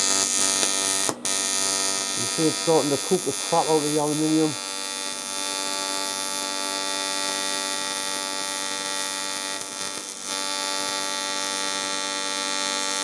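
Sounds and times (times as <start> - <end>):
welding arc buzzing: 0.0 - 13.0.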